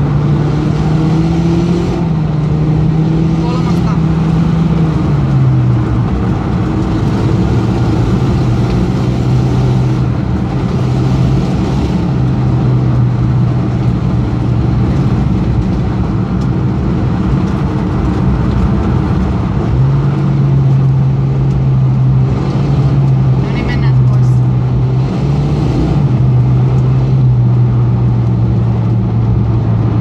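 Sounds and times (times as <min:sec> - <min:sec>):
car engine running: 0:00.0 - 0:30.0
tyre and road noise: 0:00.0 - 0:30.0.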